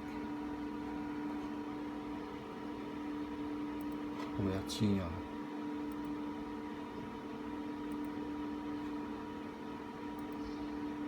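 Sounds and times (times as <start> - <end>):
server cooling fans humming: 0.0 - 11.0.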